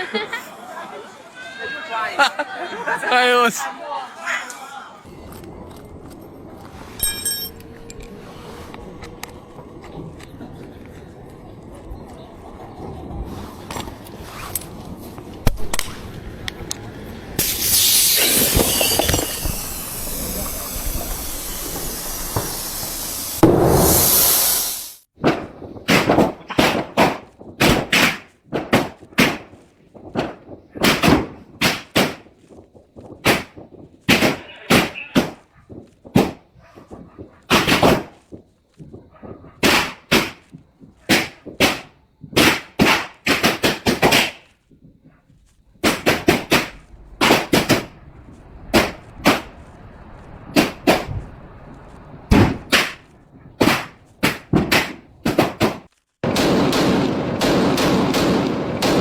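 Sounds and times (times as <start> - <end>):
fireworks bangs: 7.7 - 59.0.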